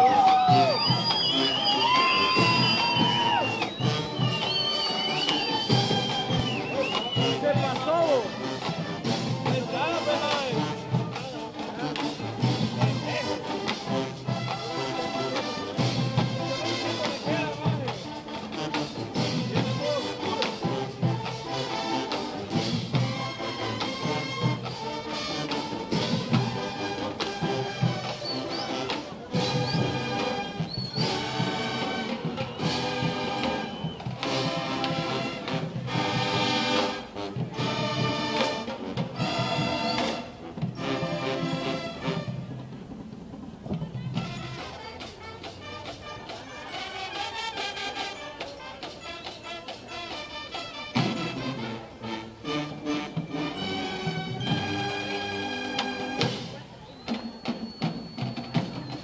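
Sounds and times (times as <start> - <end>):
brass chords: 0.0 - 43.0, 44.0 - 56.5
marching band playing: 0.0 - 59.0.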